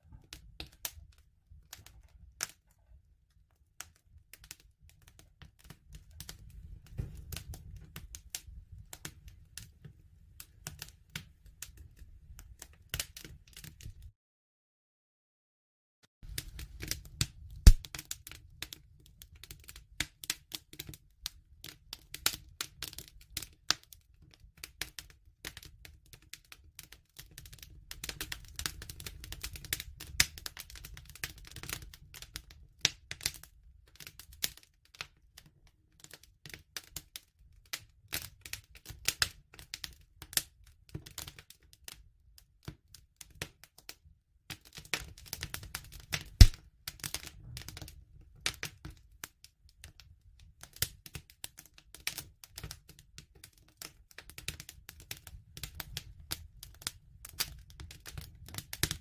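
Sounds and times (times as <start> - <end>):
wood fire crackling: 0.0 - 14.1, 16.2 - 41.9, 44.5 - 49.0, 49.8 - 59.0.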